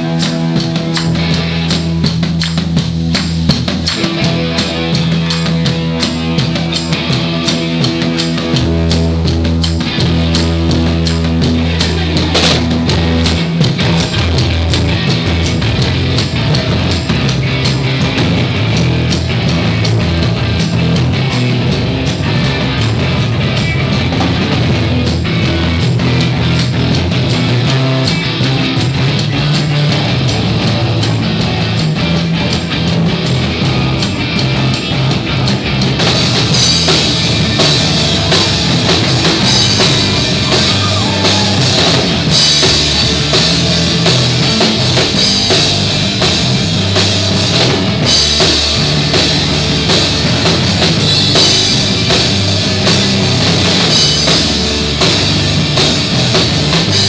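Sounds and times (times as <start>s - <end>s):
bass guitar: 0.0s - 57.0s
drum kit with cymbals: 0.0s - 57.0s
electric guitar: 0.0s - 57.0s.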